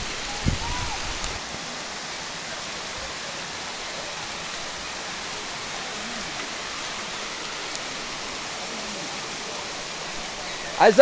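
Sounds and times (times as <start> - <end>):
waterfall rushing water: 0.0 - 11.0.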